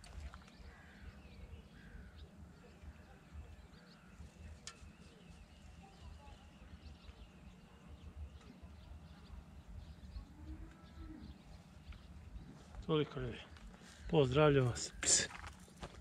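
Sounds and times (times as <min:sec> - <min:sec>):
bird calls: 0:00.0 - 0:16.0.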